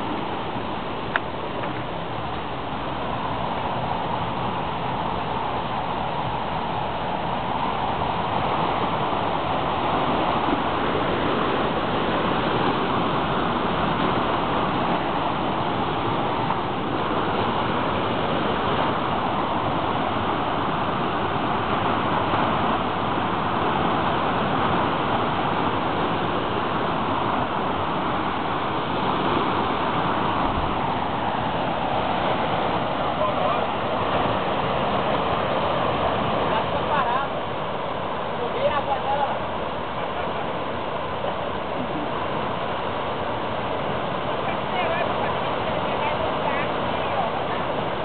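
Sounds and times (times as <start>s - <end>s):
waterfall rushing into pool: 0.0s - 48.0s.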